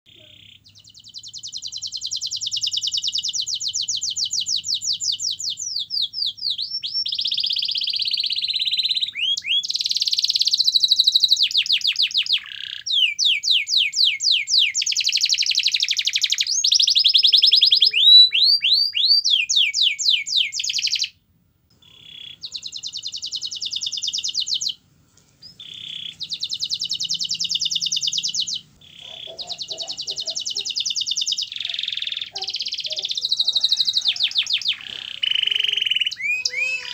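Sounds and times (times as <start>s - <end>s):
canary singing trills: 0.1s - 24.8s, 25.4s - 36.9s.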